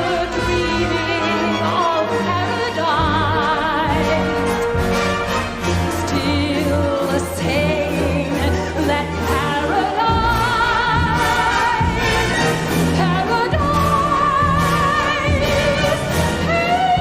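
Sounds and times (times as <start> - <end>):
orchestral music with singing: 0.0 - 17.0.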